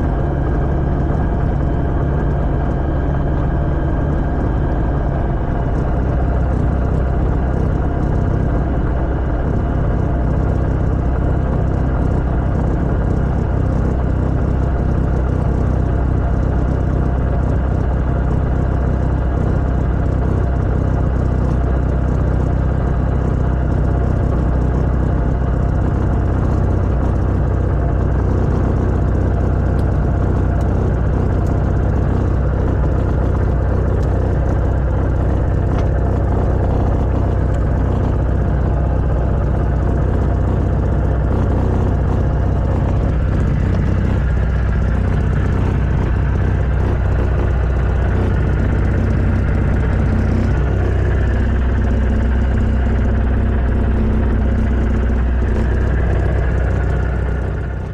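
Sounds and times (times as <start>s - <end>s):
light aircraft engine droning: 0.0s - 57.9s.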